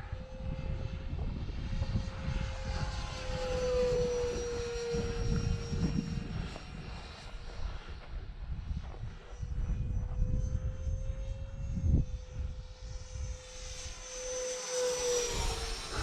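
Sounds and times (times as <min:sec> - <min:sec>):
wind rumbling on microphone: 0:00.0 - 0:14.0, 0:15.1 - 0:16.0
electric ducted-fan jet whine: 0:00.0 - 0:16.0.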